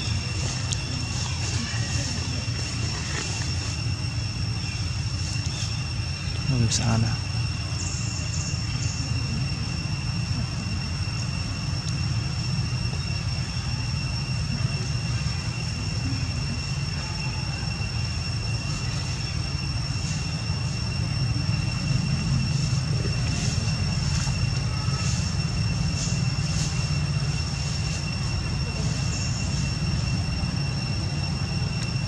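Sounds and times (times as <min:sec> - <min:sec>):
low outdoor rumble: 0:00.0 - 0:32.0
thin high-pitched whine: 0:00.0 - 0:32.0.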